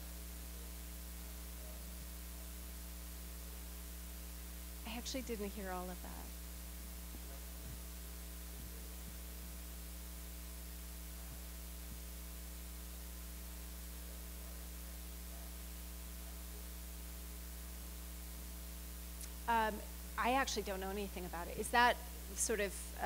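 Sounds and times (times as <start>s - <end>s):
electrical mains hum: 0.0s - 23.0s
faint microphone hiss: 0.0s - 23.0s.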